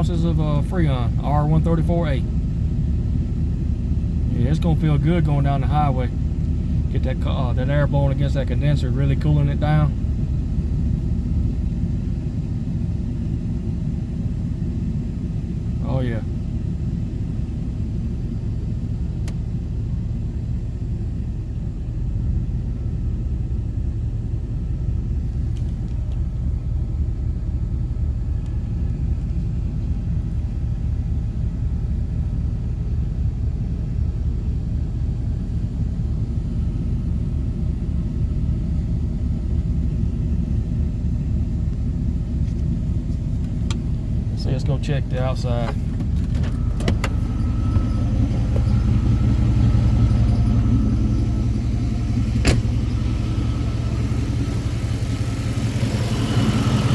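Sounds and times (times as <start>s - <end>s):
air conditioning running: 0.0s - 56.9s
car engine idling: 0.0s - 56.9s.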